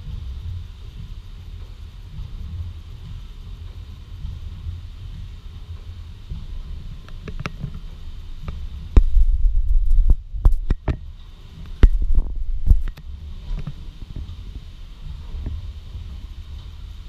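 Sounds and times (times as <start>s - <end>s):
engine clicks and knocks: 0.0s - 16.8s
steam engine throbbing: 0.0s - 17.0s.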